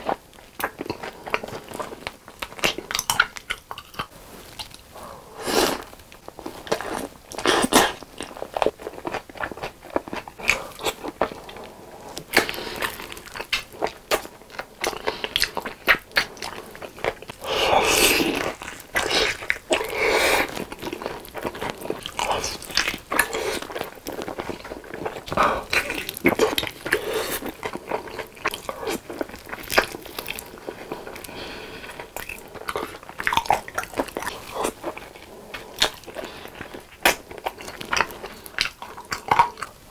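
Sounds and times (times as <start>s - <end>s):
biting and chewing chicken: 5.8s - 39.9s.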